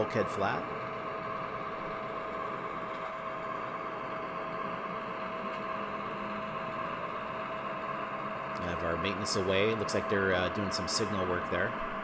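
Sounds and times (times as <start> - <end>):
model train whirring: 0.0 - 12.0
thin steady whine: 0.0 - 12.0.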